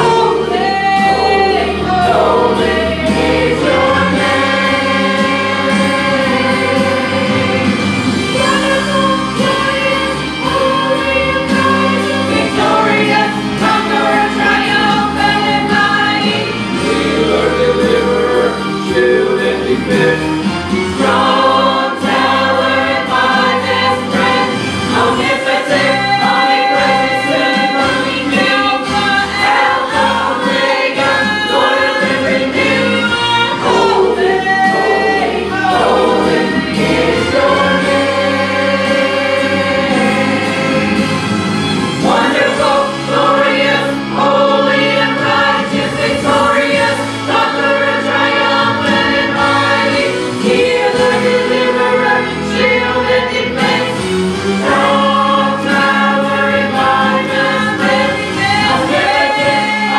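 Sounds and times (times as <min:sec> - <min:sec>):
choir singing a hymn: 0:00.0 - 0:59.9
instrumental accompaniment: 0:00.0 - 0:59.9.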